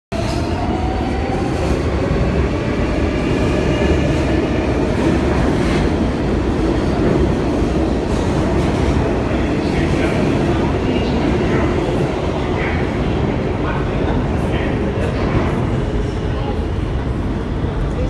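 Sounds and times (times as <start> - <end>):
subway train wheels rumbling: 0.1 - 18.0.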